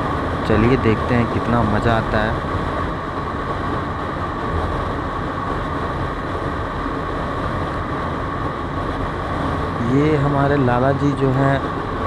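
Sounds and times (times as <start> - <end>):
wind rush on microphone: 0.0 - 12.0.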